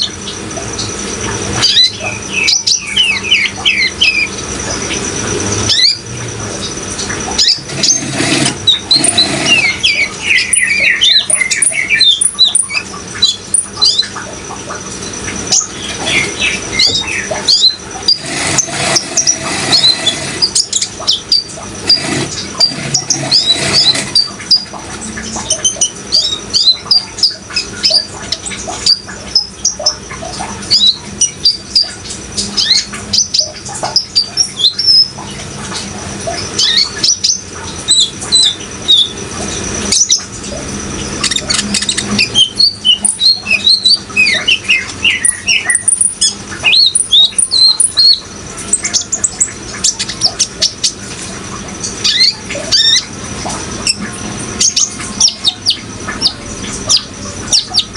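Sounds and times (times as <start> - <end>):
running water: 0.0 - 57.9
bird chirping and trilling: 1.6 - 5.0, 5.6 - 35.2, 36.3 - 39.2, 41.2 - 51.0, 52.0 - 53.2.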